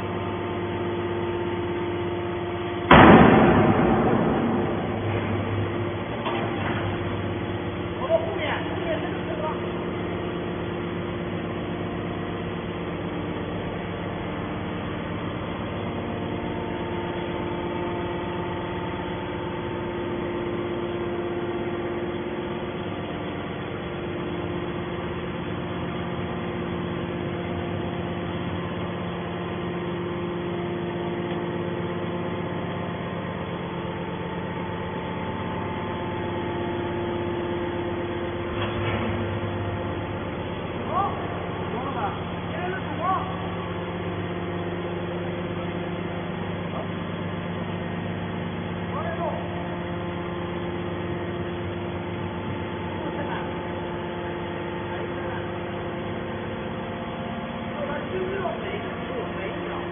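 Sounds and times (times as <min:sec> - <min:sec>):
hydraulic pump motor humming: 0:00.0 - 0:59.9.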